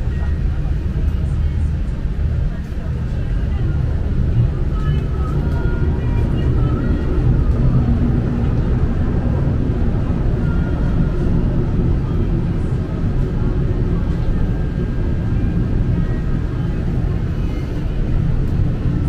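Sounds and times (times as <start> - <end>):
tram car rumbling on track: 0.0 - 19.0.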